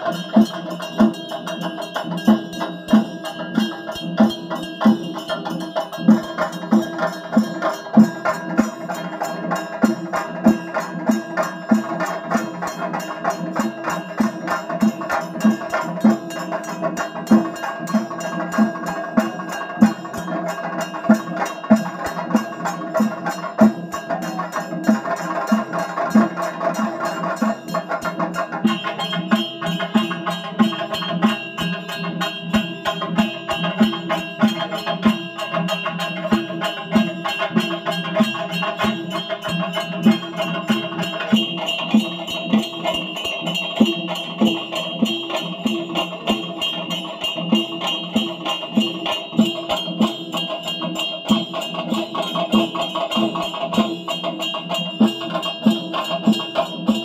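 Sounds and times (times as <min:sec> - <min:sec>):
steady ringing tone: 0:00.0 - 0:57.0
temple percussion music: 0:00.0 - 0:57.0.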